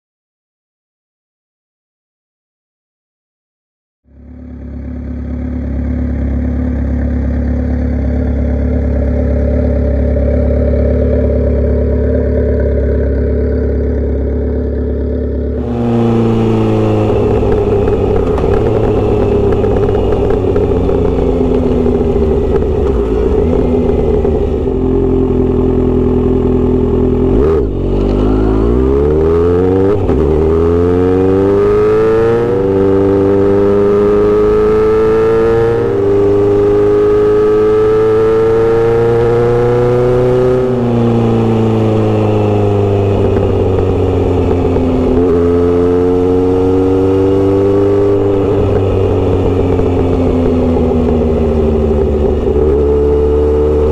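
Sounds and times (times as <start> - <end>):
motorcycle accelerating: 4.1 - 53.9
motorcycle engine running: 4.1 - 53.9
wind and road noise: 4.1 - 53.9.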